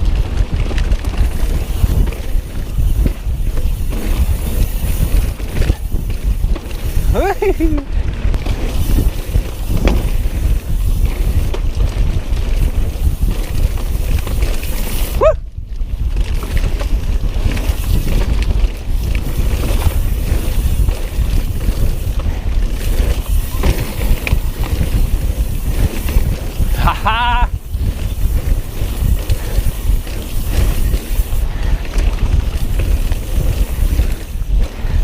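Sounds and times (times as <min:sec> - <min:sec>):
bike rattling over dirt: 0:00.0 - 0:35.0
wind on microphone: 0:00.0 - 0:35.0.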